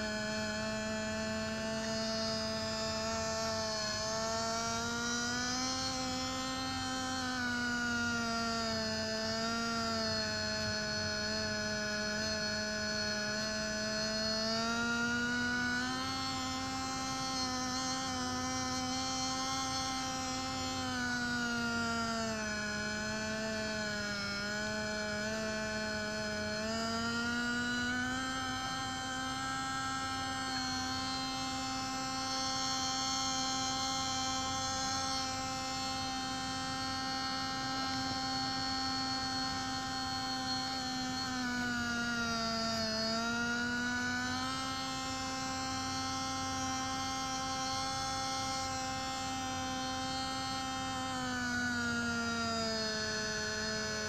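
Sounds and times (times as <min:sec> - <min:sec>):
electric motor whine: 0:00.0 - 0:54.0.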